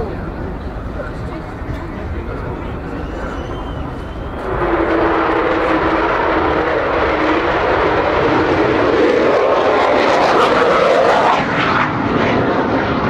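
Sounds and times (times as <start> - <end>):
jet aircraft fly-past howl: 0.0 - 13.0.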